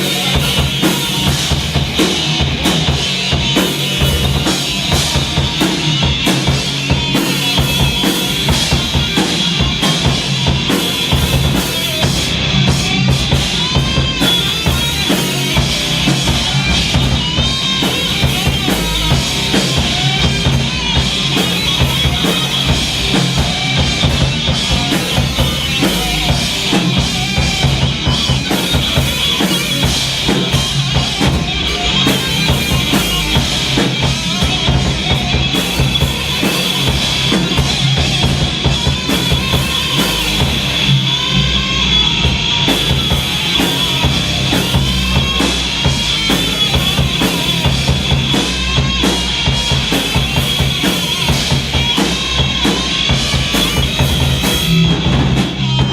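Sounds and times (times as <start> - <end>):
drum kit: 0.0 - 55.9
live rock band playing: 0.0 - 55.9.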